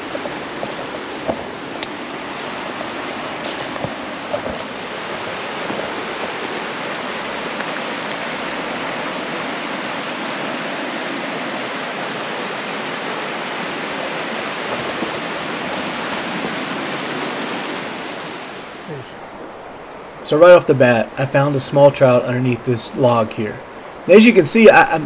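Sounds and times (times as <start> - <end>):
creek rushing over rocks: 0.0 - 25.0.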